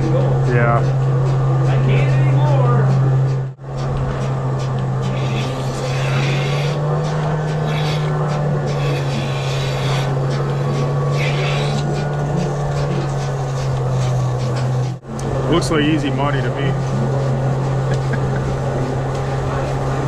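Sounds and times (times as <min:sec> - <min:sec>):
milker units hissing: 0:00.0 - 0:20.0
milking vacuum system humming: 0:00.0 - 0:20.0.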